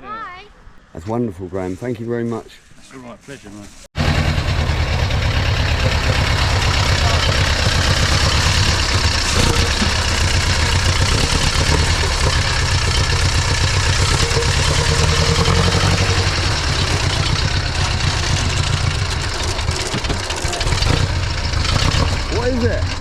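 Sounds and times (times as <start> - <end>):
car engine idling: 4.0 - 23.0.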